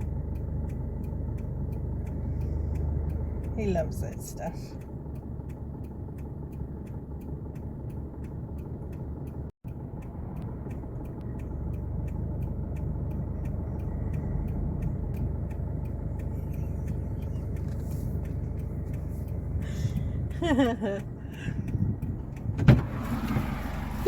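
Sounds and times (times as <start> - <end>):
vehicle rumble from inside cabin: 0.0 - 24.0.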